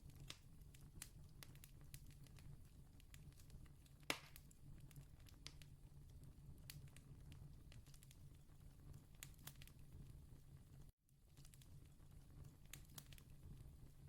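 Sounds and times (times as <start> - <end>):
campfire crackling: 0.0 - 10.1, 10.8 - 14.0.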